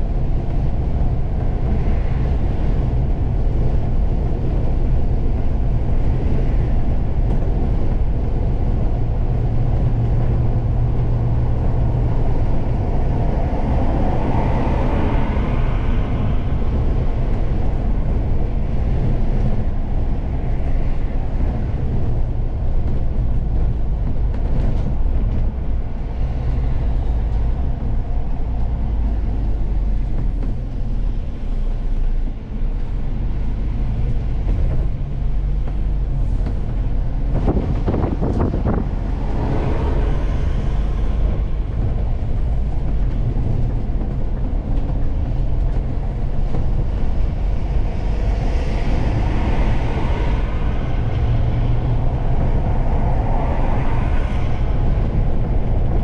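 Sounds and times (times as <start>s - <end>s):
coach engine drone: 0.0s - 56.0s
hiss of tyres and wind: 0.0s - 56.0s
road and tyre noise: 0.0s - 56.0s.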